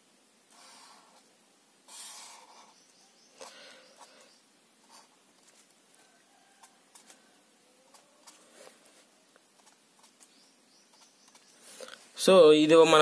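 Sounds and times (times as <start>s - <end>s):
marker pen scratching on paper: 0.5s - 1.3s, 1.9s - 11.9s.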